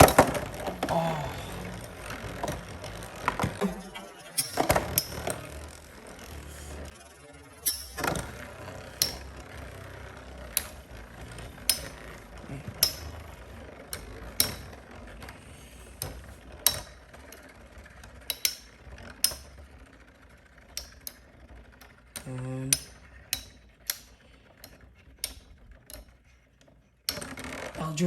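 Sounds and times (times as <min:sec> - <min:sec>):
spinning tops clashing clicks: 0:00.0 - 0:27.8
spinning tops whirring: 0:00.0 - 0:28.0.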